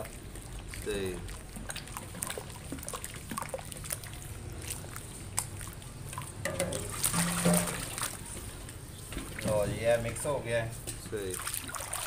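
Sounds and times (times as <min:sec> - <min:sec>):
hand squishing batter: 0:00.0 - 0:12.0.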